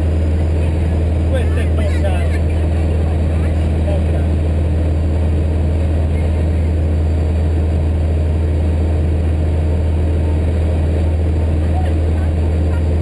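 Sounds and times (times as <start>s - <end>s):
aircraft engine drone in cabin: 0.0s - 13.0s.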